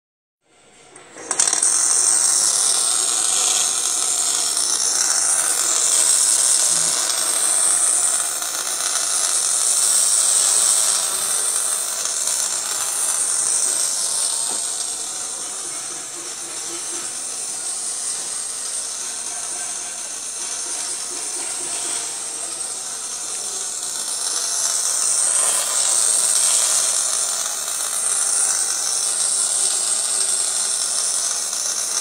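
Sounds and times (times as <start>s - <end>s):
welding arc hiss: 1.2s - 32.0s.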